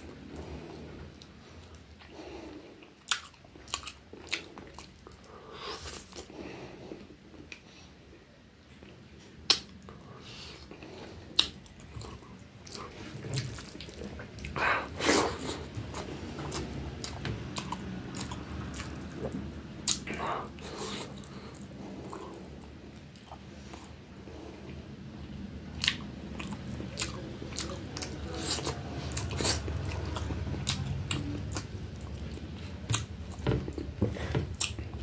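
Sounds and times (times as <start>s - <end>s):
person chewing food: 0.0s - 7.7s, 8.7s - 24.8s, 25.7s - 35.0s.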